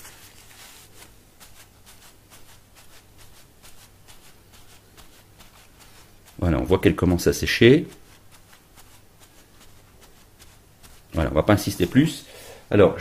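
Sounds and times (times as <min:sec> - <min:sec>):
paper towel dabbing metal sheet: 0:00.0 - 0:12.3
low steady hum: 0:00.0 - 0:13.0.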